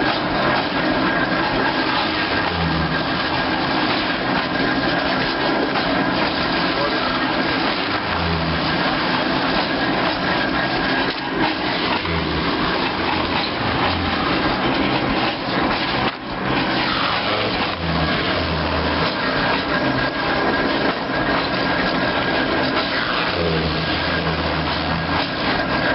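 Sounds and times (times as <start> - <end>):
steam engine machinery din: 0.0 - 25.9.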